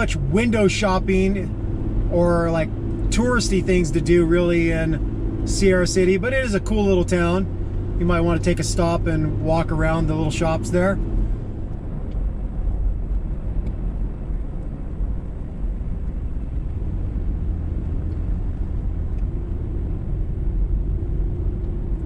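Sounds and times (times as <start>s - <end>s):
truck driving on highway: 0.0s - 22.0s.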